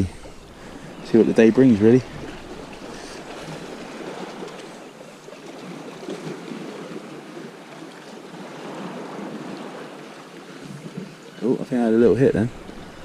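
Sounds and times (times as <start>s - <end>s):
sea water washing at shoreline: 0.0s - 13.0s.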